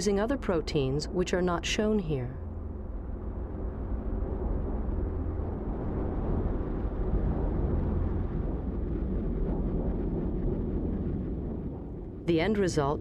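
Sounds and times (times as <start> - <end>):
low rumbling ambient drone: 0.0 - 13.0.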